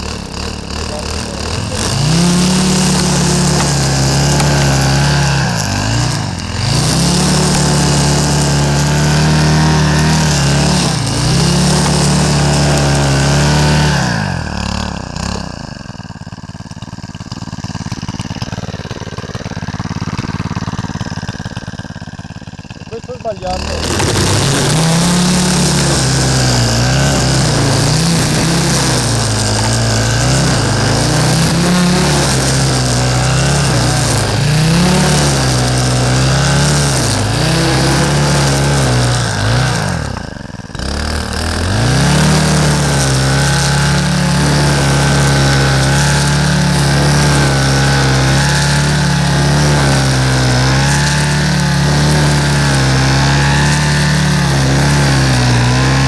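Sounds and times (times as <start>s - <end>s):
brushcutter engine cutting grass: 0.0s - 56.0s.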